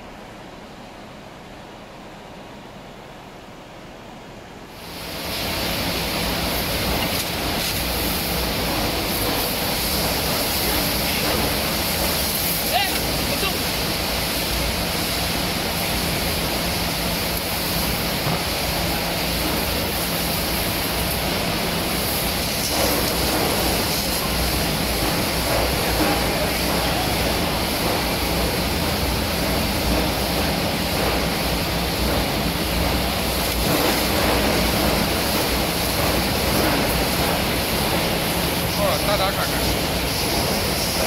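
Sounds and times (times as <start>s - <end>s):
metal shredding machinery: 4.8s - 41.0s.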